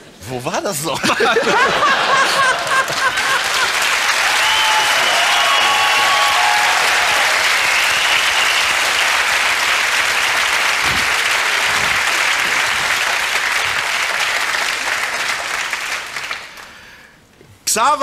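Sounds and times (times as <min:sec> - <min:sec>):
audience applauding: 0:01.4 - 0:16.9.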